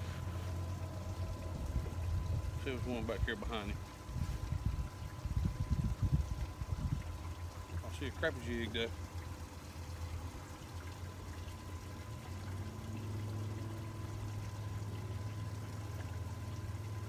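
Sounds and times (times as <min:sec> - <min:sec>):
electric trolling motor humming: 0:00.0 - 0:17.0.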